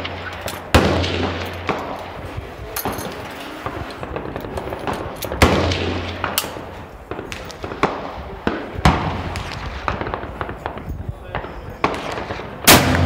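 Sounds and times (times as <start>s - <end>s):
rifle shots echoing: 0.0s - 13.0s.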